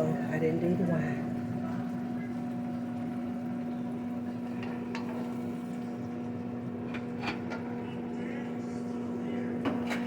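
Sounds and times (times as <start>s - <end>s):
constant electric hum: 0.0s - 10.0s
pot simmering and bubbling: 0.0s - 10.0s.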